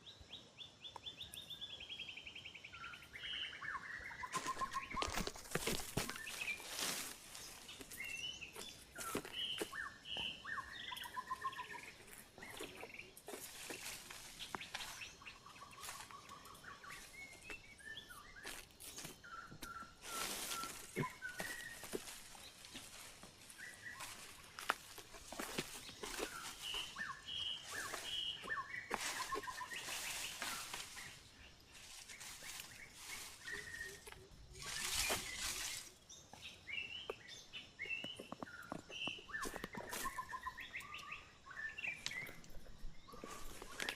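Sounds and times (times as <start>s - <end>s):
birds chirping and whistling: 0.0s - 43.9s.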